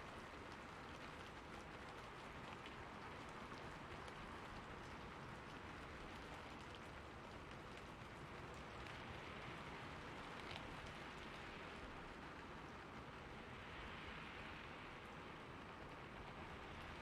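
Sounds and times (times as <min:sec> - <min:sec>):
rain on a rooftop: 0:00.0 - 0:17.0.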